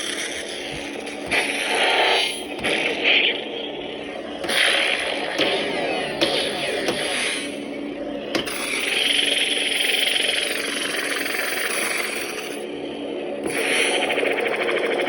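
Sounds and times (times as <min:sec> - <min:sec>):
buzzing electric hum: 0:00.0 - 0:15.0.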